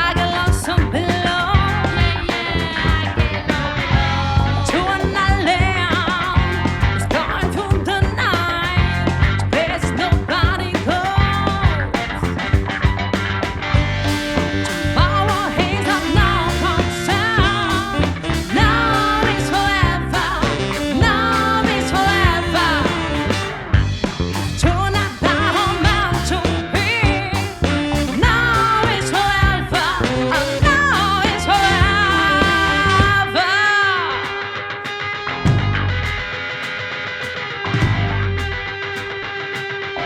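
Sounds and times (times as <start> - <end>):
live band playing soul-pop: 0.0 - 40.0.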